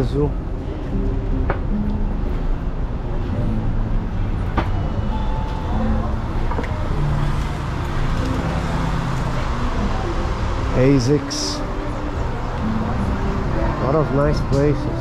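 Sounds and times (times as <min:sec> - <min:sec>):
road traffic: 0:00.0 - 0:15.0
passers-by talking: 0:03.0 - 0:15.0.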